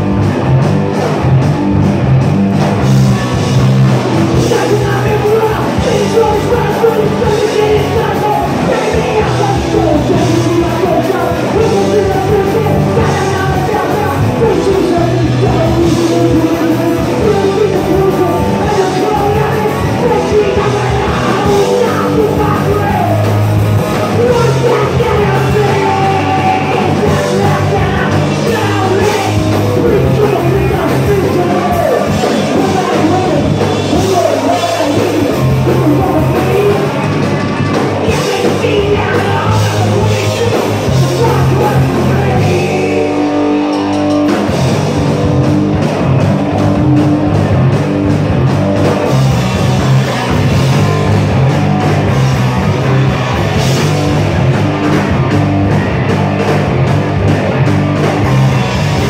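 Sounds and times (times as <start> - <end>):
bass guitar: 0.0 - 59.0
drums: 0.0 - 59.0
electric guitar: 0.0 - 59.0
shouted lead vocal: 2.7 - 59.0.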